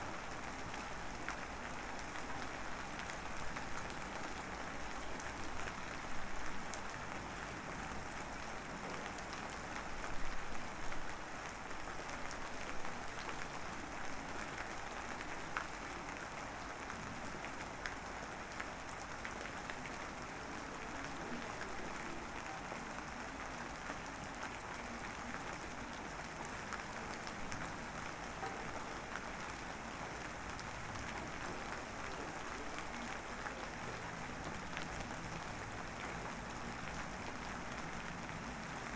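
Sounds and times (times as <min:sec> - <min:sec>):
light drizzle patter: 0:00.0 - 0:38.9.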